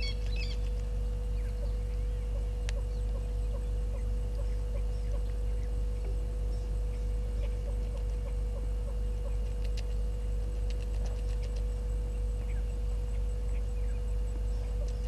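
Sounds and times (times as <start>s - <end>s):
electrical hum: 0.0s - 15.0s
thin constant whine: 0.0s - 15.0s.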